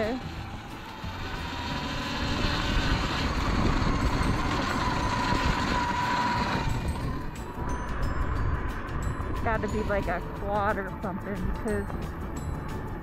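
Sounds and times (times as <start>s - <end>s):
high electric motor whine: 0.0s - 12.9s
wind rush: 0.0s - 13.0s.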